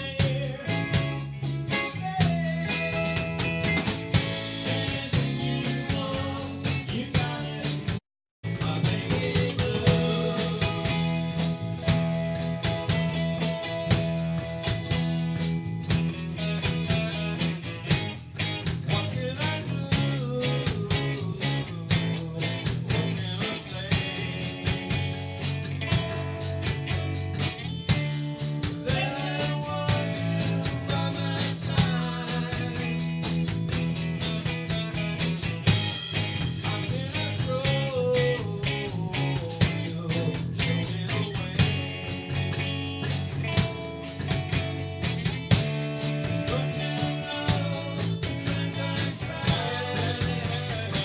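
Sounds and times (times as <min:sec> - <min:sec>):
drum kit beat: 0:00.0 - 0:51.0
electric bass: 0:00.0 - 0:51.0
electric guitars: 0:00.0 - 0:51.0.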